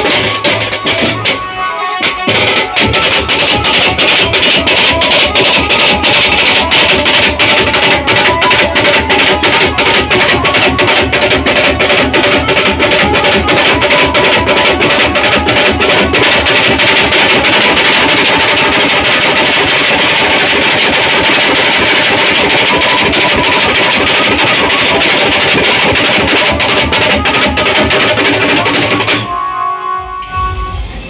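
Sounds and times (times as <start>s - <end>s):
snare and bass drums beating: 0.0s - 29.4s.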